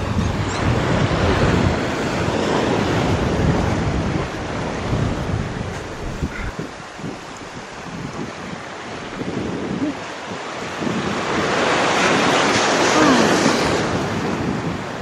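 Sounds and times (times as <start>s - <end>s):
sea waves washing onto rocks: 0.0s - 15.0s
wind buffeting microphone: 0.0s - 15.0s.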